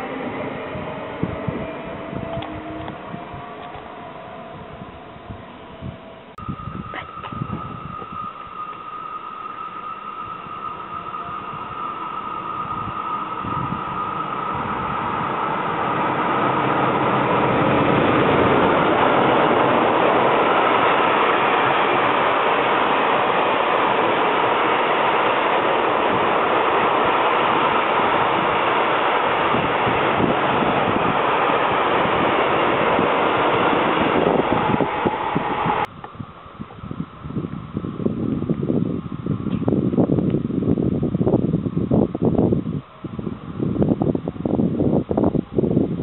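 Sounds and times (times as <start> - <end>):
faint high steady tone: 0.0 - 37.1
freight train wheels on rails: 0.0 - 46.0.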